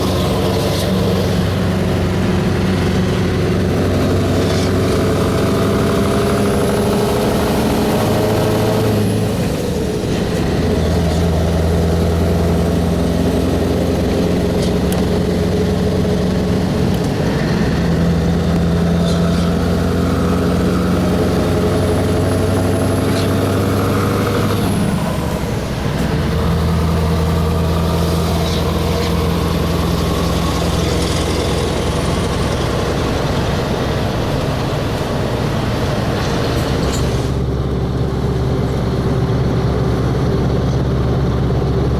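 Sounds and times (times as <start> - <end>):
truck engine running under load: 0.0 - 41.9.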